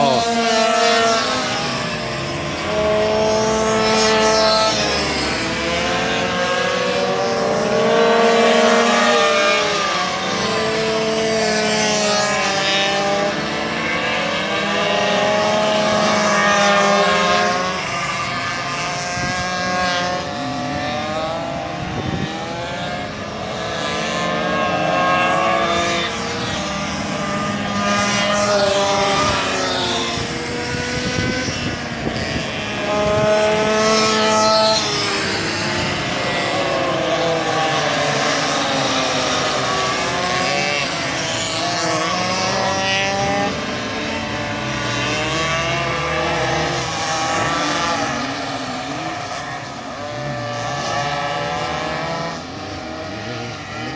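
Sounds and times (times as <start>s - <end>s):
racing minibike engines revving: 0.0s - 53.9s.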